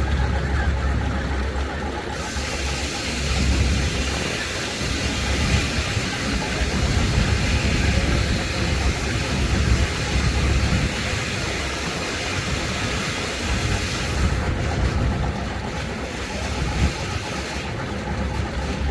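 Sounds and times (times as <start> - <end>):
sawmill running: 0.0 - 18.9.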